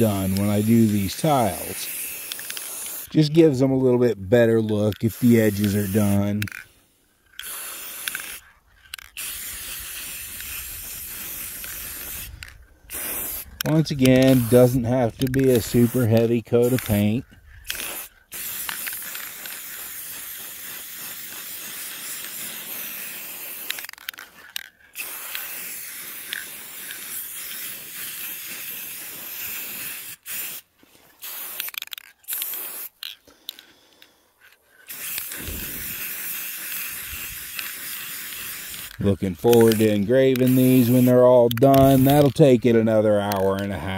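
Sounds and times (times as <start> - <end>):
spray paint can hissing: 0.0 - 33.9, 34.8 - 43.9.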